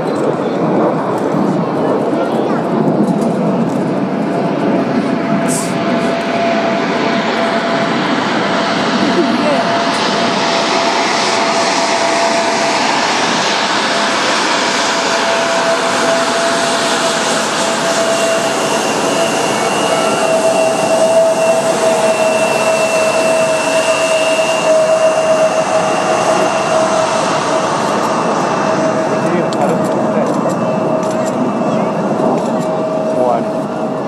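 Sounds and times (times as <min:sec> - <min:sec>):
jet aircraft flying overhead: 0:00.0 - 0:34.0.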